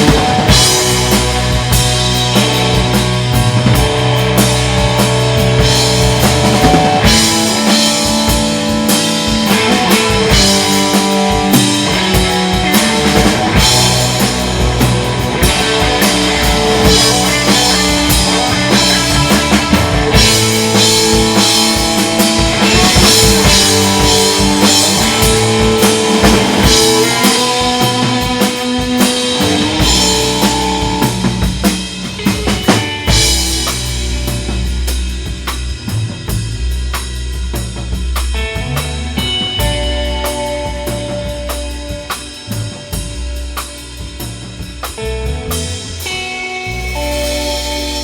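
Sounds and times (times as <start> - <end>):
held guitar chords: 0.0 - 36.0, 38.3 - 48.0
drum kit beat: 0.0 - 48.0.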